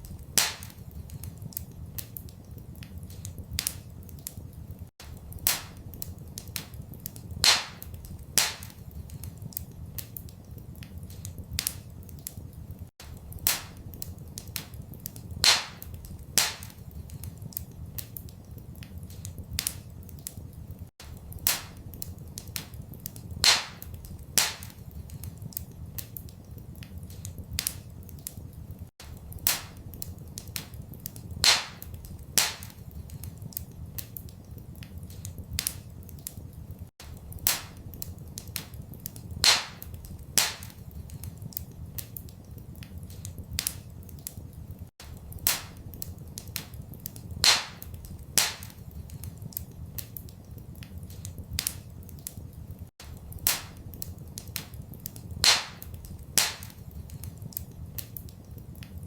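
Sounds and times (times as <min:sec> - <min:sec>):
fire pops and snaps: 0:00.0 - 0:59.0
wood fire crackling: 0:00.0 - 0:59.0.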